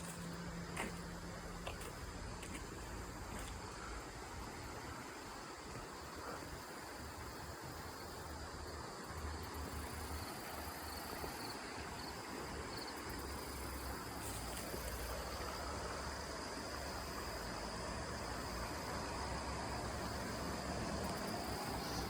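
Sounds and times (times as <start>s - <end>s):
creek water flowing: 0.0s - 22.0s
insects chirring: 0.0s - 22.0s.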